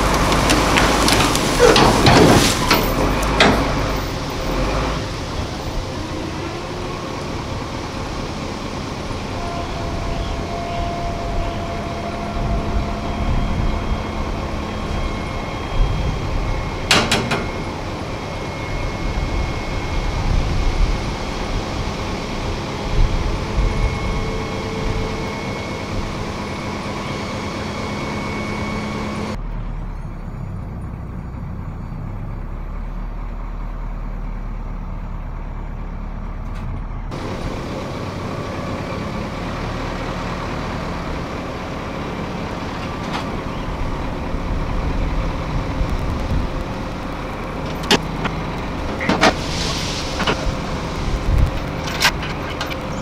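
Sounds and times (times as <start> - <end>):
steady whine: 0.0 - 29.4, 37.0 - 53.0
diesel truck engine running: 0.0 - 53.0.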